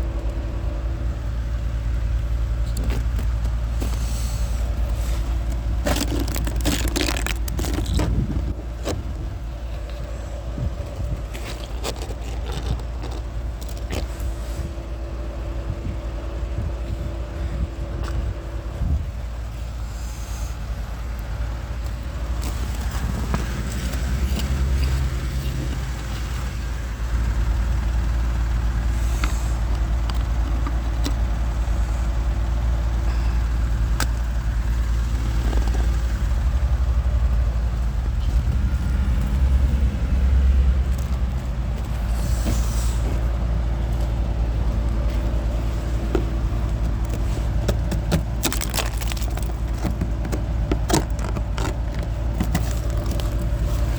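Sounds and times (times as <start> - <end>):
motor vehicle low rumble: 0.0 - 53.9.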